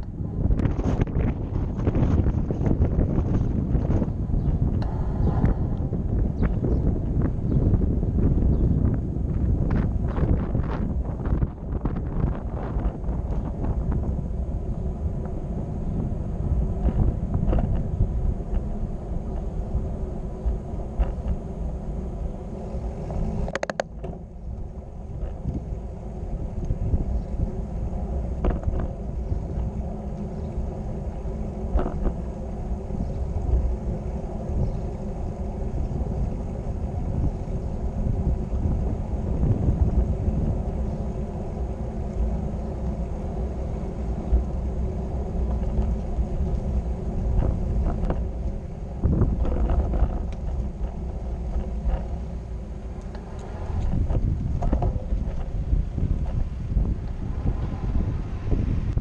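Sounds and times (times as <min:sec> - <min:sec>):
wind and road noise rumble: 0:00.0 - 0:59.0.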